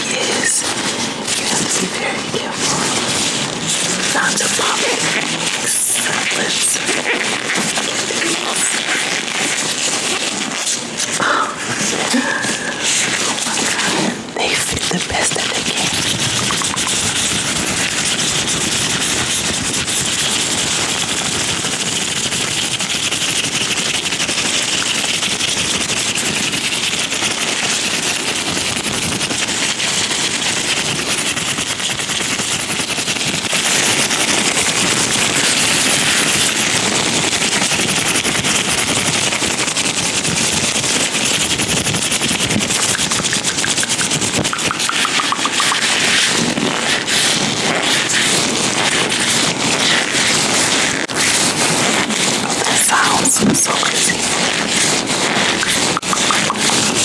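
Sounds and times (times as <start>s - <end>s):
latex gloves rubbing and squeaking: 0.0s - 57.0s.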